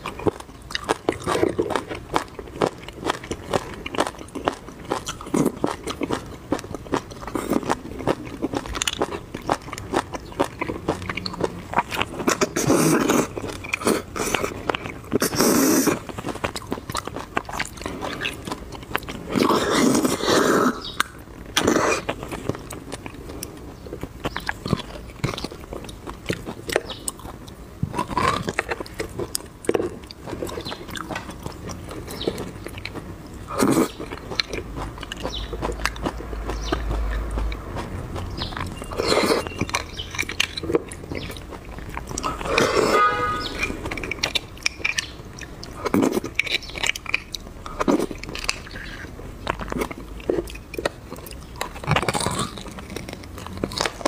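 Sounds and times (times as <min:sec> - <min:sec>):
wet chewing and lip smacking: 0:00.0 - 0:42.9, 0:43.5 - 0:54.0.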